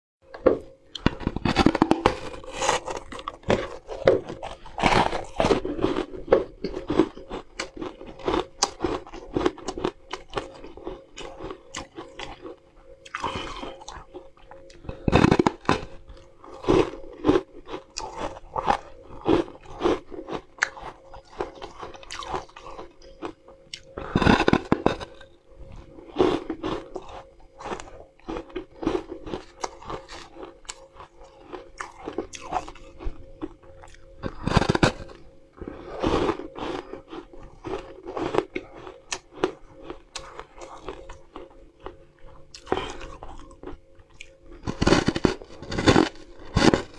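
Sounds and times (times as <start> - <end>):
person crunching crisp food: 0.9 - 46.9.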